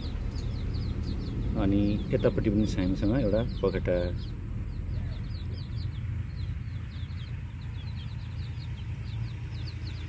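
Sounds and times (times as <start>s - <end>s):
birds chirping: 0.0s - 10.0s
steady low rumble: 0.0s - 10.0s.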